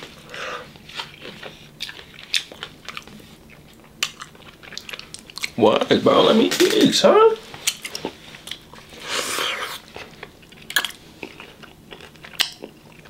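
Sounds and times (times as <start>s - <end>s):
person chewing: 0.0s - 5.6s, 7.6s - 13.0s.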